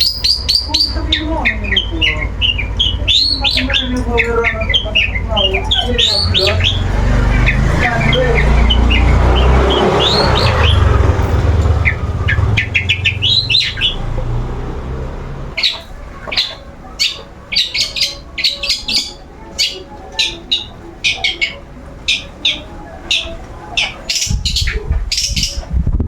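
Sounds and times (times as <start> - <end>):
shrike calling: 0.0 - 25.7.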